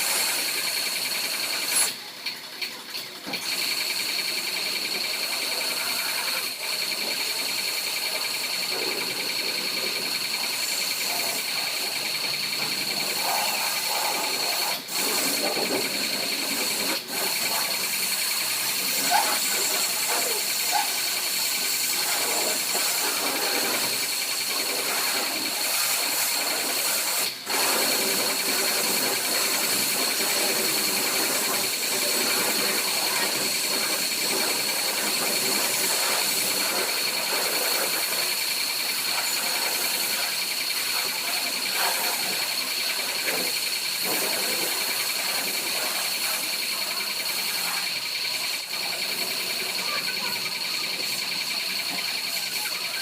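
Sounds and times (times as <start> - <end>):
car wash machine hissing: 0.0 - 53.0.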